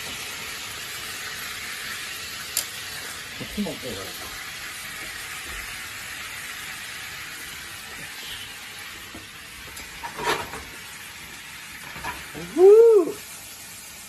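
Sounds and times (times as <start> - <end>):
sauce sizzling in a frying pan: 0.0 - 14.0.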